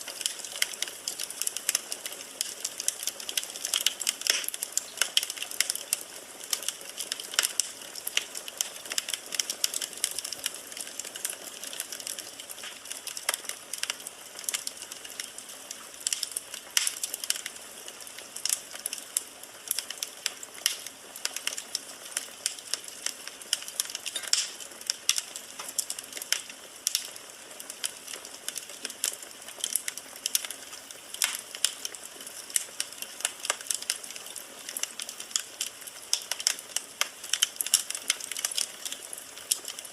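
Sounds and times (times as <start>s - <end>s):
fire crackling: 0.0s - 39.9s
soft hiss of fire: 0.0s - 39.9s.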